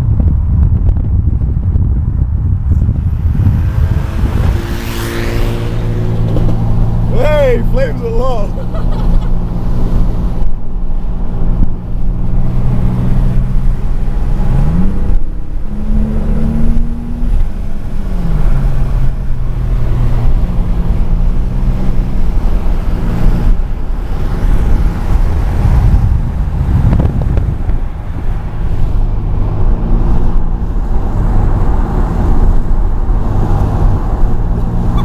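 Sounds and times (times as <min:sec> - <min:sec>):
car engine droning: 0:00.1 - 0:35.0.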